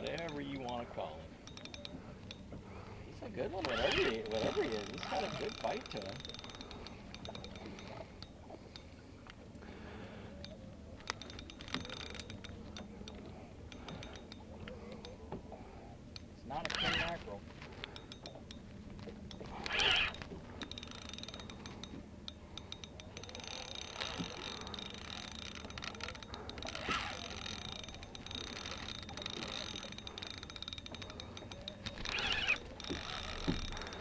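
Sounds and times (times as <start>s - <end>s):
fishing reel clicking rapidly: 0.0s - 9.0s, 10.4s - 15.2s, 16.2s - 18.7s, 19.3s - 34.0s.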